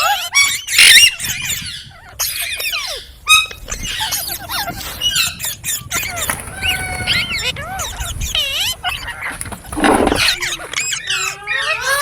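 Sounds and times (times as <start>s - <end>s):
parrots chattering: 0.0s - 12.0s.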